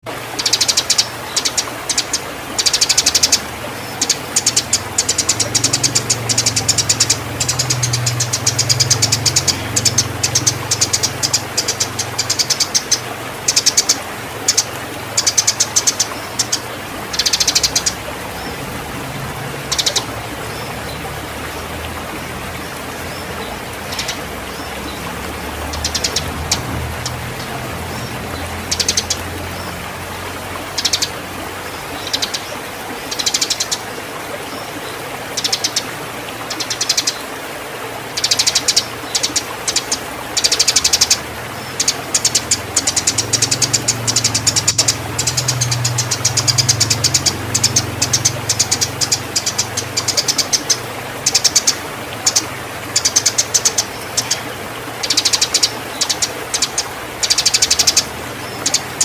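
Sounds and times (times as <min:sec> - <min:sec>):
sparrows chirping: 0:00.0 - 0:33.9, 0:34.5 - 0:37.2, 0:38.2 - 0:59.0.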